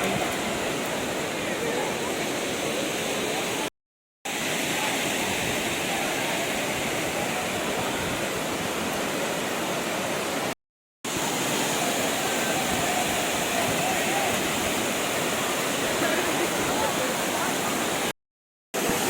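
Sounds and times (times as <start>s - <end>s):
waterfall rushing: 0.0s - 3.7s, 4.3s - 18.1s, 18.8s - 19.0s.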